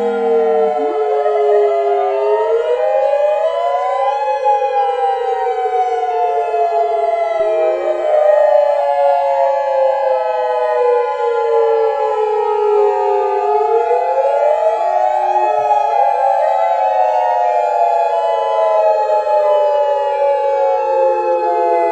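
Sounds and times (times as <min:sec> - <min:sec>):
overlapping siren tones: 0:00.0 - 0:21.9.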